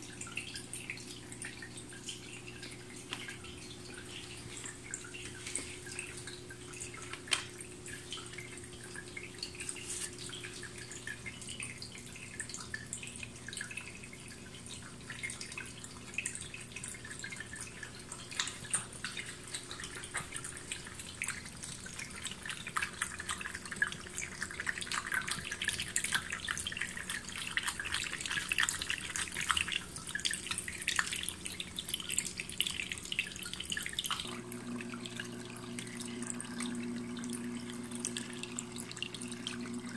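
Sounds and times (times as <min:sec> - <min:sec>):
cat lapping water: 0:00.0 - 0:39.9
water trickling and dripping: 0:00.0 - 0:39.9.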